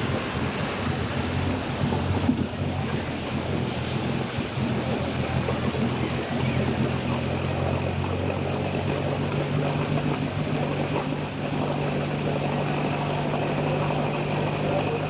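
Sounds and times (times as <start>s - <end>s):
floodwater rushing: 0.0s - 15.0s
vehicle engine humming: 0.0s - 15.0s.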